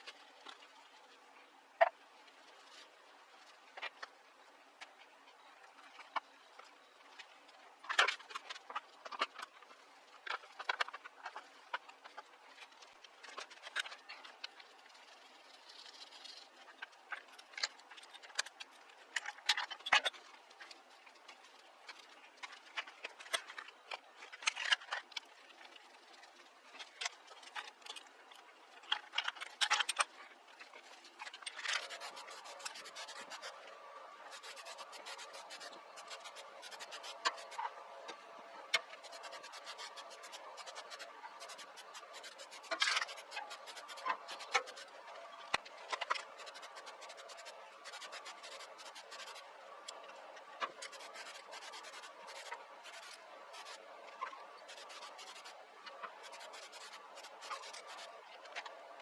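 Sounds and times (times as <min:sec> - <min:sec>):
steady hum with tones: 0:00.0 - 0:59.0.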